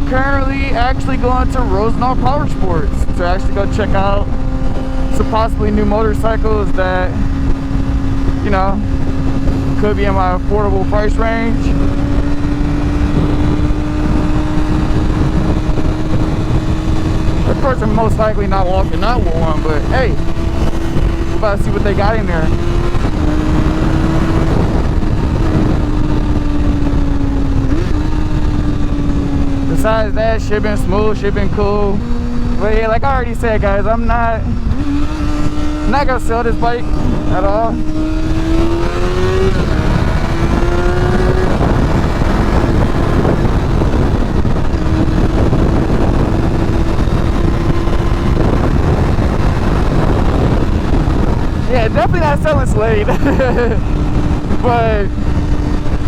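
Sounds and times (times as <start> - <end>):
motorcycle engine cruising: 0.0 - 56.0
wind rush on microphone: 0.0 - 56.0.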